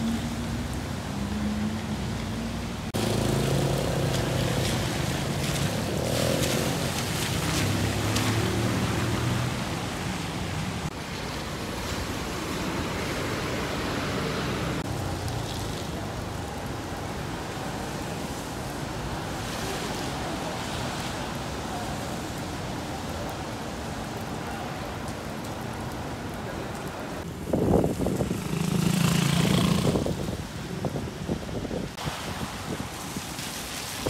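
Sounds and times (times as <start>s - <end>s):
tyres hissing on wet road: 0.0s - 34.0s.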